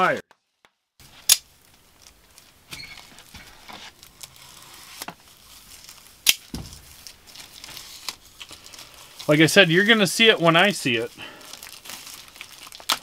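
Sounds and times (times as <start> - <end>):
plastic wrapping crinkling: 1.0 - 13.0.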